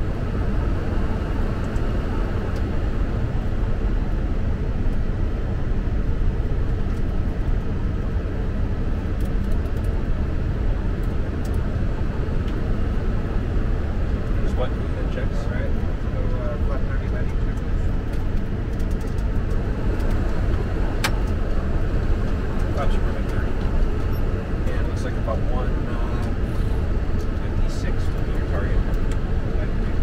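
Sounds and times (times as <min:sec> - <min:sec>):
low rumble: 0:00.0 - 0:30.0.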